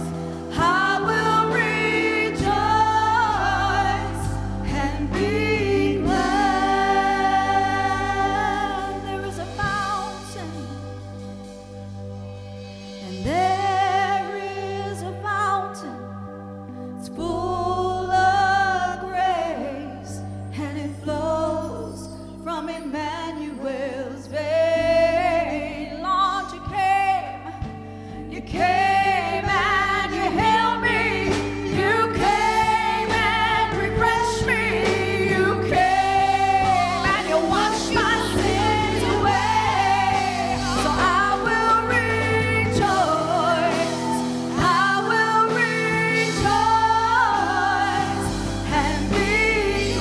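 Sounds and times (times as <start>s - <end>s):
drums: 0.0s - 17.2s, 24.3s - 50.0s
band with steady bass: 0.0s - 50.0s
person singing worship song: 0.0s - 50.0s.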